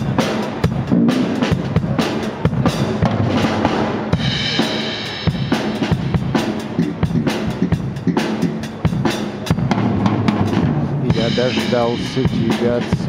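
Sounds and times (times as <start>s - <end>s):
drum kit playing a steady beat: 0.0s - 13.0s.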